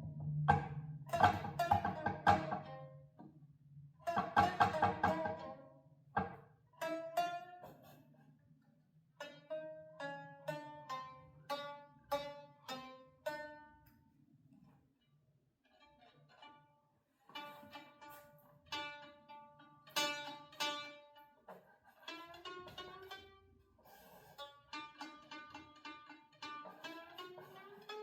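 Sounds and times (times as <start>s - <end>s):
plucked string instrument: 0.0s - 8.2s, 9.2s - 14.7s, 15.7s - 28.0s.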